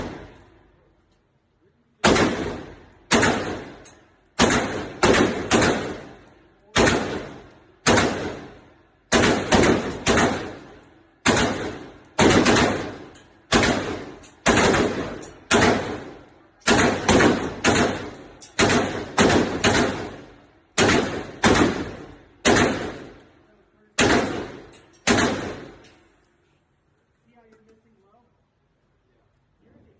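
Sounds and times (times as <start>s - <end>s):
rifle shots with ringing echo: 0.0s - 0.7s, 2.0s - 26.2s.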